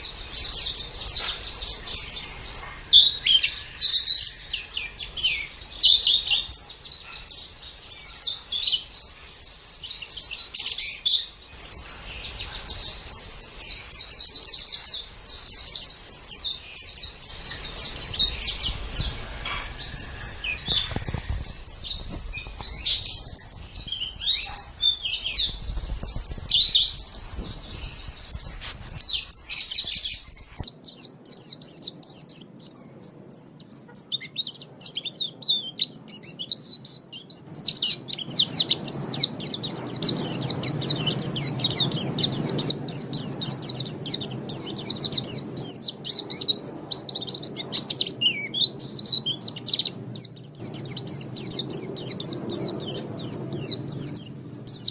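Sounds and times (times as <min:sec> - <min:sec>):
bird twittering song: 0:00.0 - 0:54.9.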